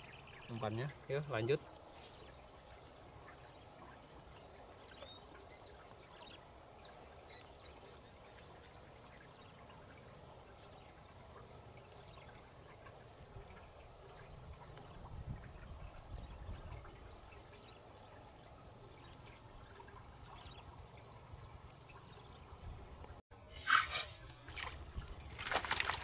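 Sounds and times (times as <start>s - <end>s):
insects trilling: 0.0s - 22.9s.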